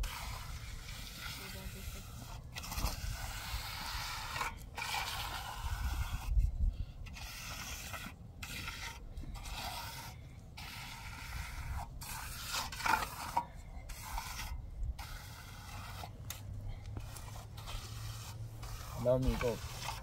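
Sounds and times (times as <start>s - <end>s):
scraping strokes: 0.0s - 20.0s.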